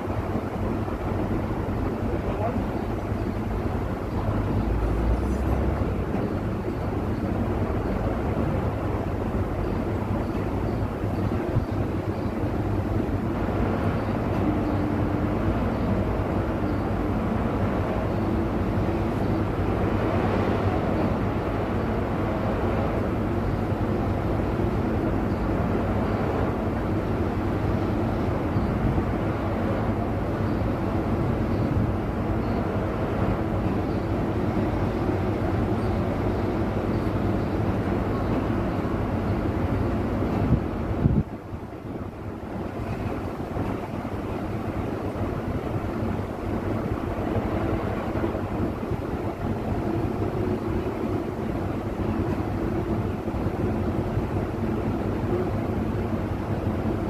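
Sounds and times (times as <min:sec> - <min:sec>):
large engine droning: 0:00.0 - 0:57.0.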